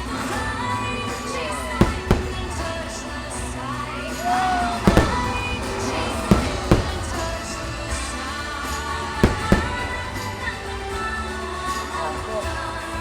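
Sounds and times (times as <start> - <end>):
fireworks bangs: 0.0 - 11.4
music soundtrack: 0.0 - 13.0.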